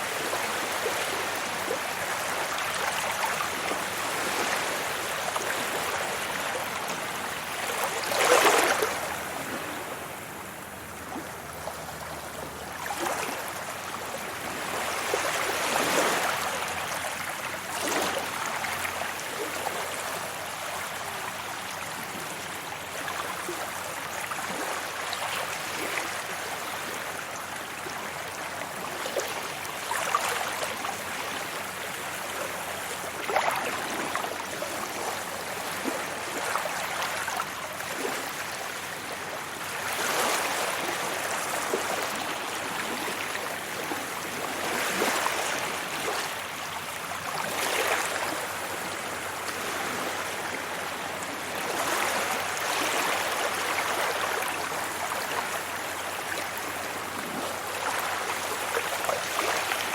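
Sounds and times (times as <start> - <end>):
small water splashes: 0.0 - 10.0, 11.0 - 59.9
sea waves breaking on beach: 0.0 - 59.9.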